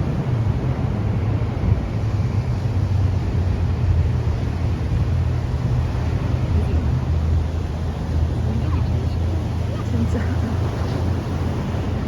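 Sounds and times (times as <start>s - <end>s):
steady low rumble: 0.0s - 12.0s
wind noise on microphone: 0.0s - 12.0s.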